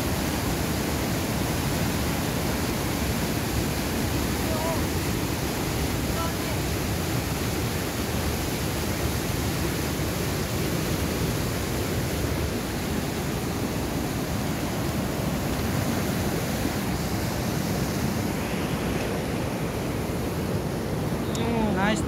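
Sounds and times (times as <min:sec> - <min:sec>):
stream rushing over boulders: 0:00.0 - 0:22.0.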